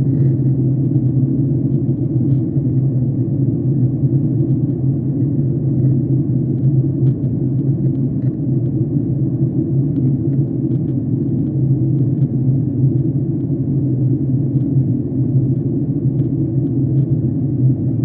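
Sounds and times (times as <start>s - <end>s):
jet engine cabin roar: 0.0s - 18.0s.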